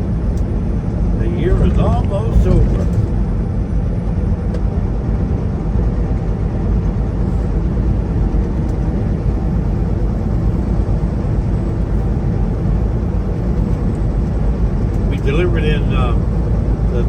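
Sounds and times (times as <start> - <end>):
diesel engine drone: 0.0 - 17.0
tyres on highway: 0.0 - 17.0.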